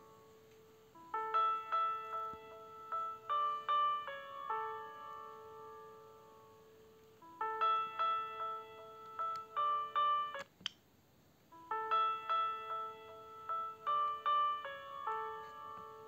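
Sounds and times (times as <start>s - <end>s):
phone ringtone melody: 0.0s - 10.4s, 11.6s - 16.0s.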